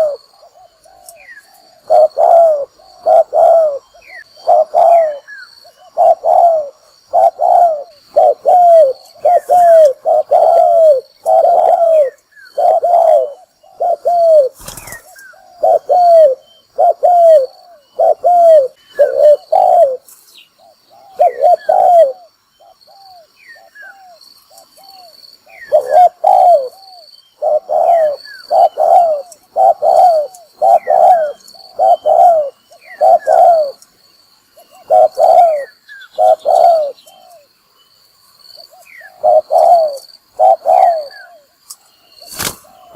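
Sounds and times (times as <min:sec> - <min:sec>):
dove cooing: 0:00.0 - 0:33.8, 0:34.5 - 0:37.5, 0:38.6 - 0:41.6.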